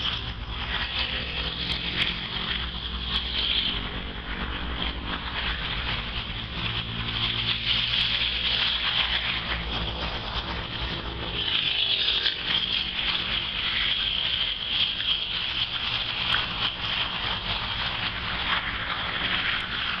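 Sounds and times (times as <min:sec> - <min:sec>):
high hiss: 0:00.0 - 0:20.0.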